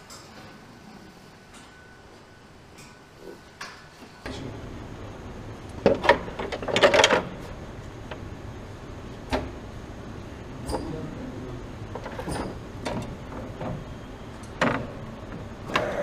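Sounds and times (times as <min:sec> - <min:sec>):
factory machine hum: 0:00.0 - 0:16.0.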